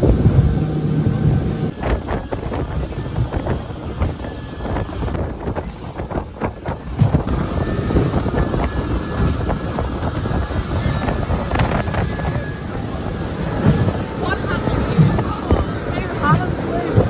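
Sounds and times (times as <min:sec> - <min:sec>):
motorboat engine: 0:00.0 - 0:17.0
wind buffeting microphone: 0:00.0 - 0:17.0.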